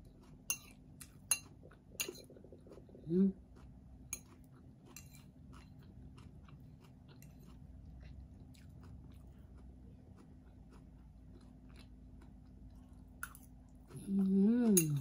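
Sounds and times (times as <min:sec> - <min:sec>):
faint crunchy chewing: 0:00.0 - 0:15.0.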